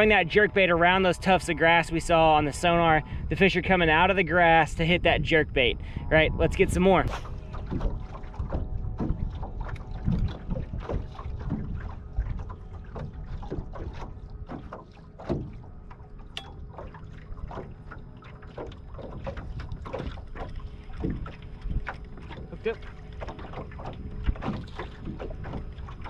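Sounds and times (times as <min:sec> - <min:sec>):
wind on microphone: 0:00.0 - 0:14.7, 0:19.1 - 0:26.0
small waves slapping a boat hull: 0:00.0 - 0:26.0.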